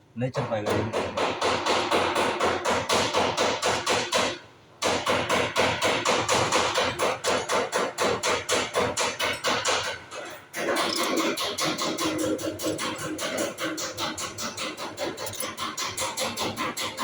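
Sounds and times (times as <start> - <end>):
hammer striking rapidly: 0.4 - 17.0.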